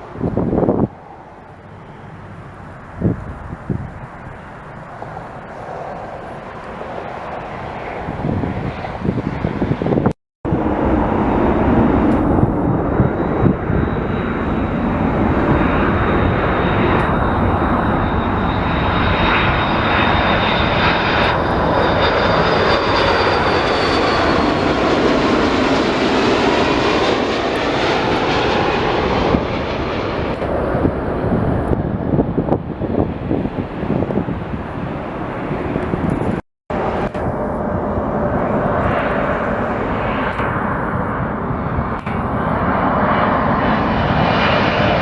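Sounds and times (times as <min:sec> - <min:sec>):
jet engines passing by: 0:00.0 - 0:45.0.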